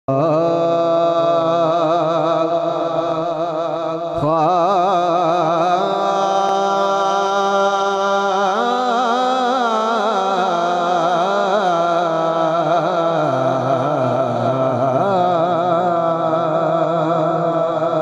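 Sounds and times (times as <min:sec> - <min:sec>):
man singing with vibrato: 0:00.0 - 0:18.0.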